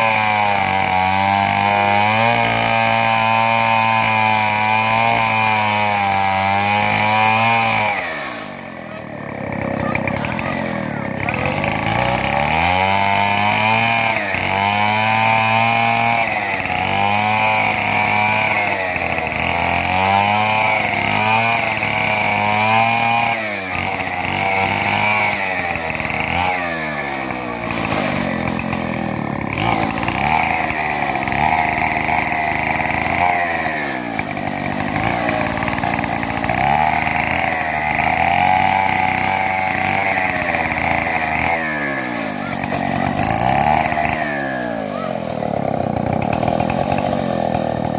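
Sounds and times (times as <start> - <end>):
chainsaw cutting timber: 0.0 - 47.9.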